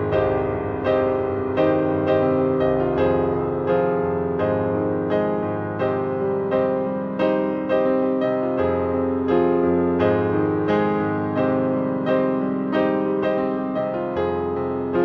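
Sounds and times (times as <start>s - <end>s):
slow solo piano piece: 0.0s - 15.0s.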